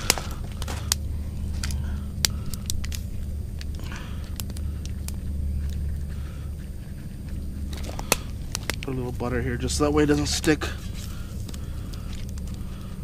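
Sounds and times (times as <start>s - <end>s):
low stove rumble: 0.0s - 13.0s
wood fire crackling: 0.0s - 13.0s.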